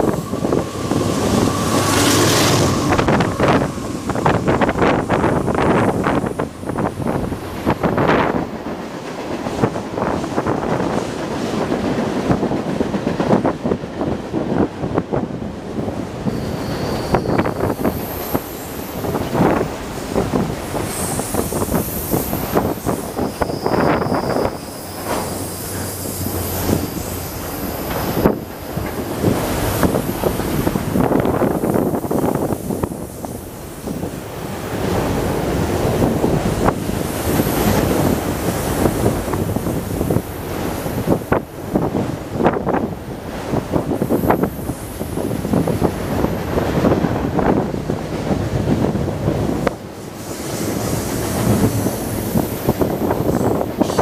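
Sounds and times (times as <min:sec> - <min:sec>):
steel wheels rumbling on rail: 0:00.0 - 0:54.0
train cars clanking: 0:00.0 - 0:54.0
wind buffeting microphone: 0:00.0 - 0:54.0.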